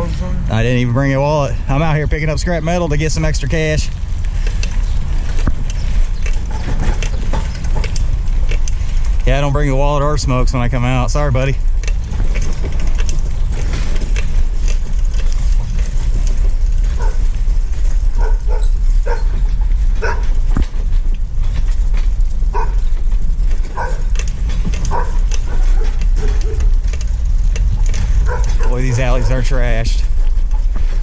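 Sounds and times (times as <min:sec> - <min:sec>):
vehicle driving rumble: 0:00.0 - 0:31.0.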